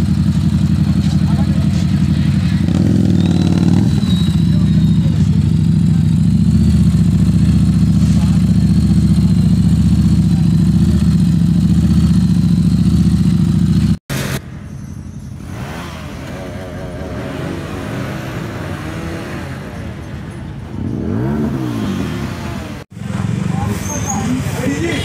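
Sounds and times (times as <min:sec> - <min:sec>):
motorcycle engine running: 0:00.0 - 0:25.0
motorcycles idling and revving: 0:00.0 - 0:25.0.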